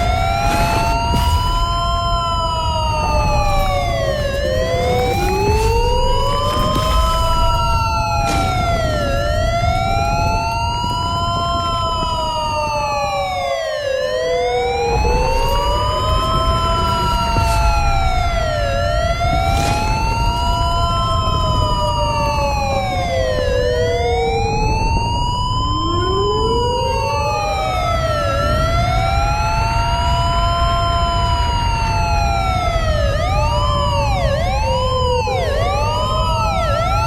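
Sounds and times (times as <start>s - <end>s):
steady low rumble: 0.0s - 31.1s
emergency sirens wailing: 0.0s - 37.0s.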